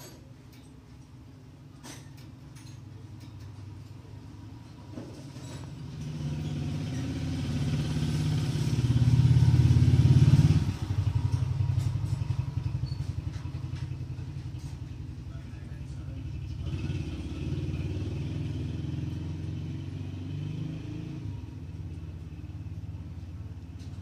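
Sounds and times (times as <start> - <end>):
engine running: 2.0 - 24.0.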